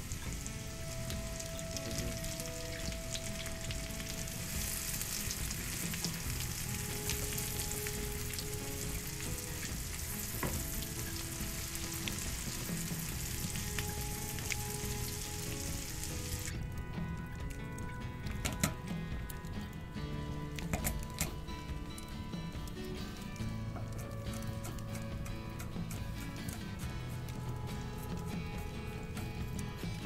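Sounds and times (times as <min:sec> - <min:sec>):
onion sizzling in a pan: 0:00.0 - 0:30.0.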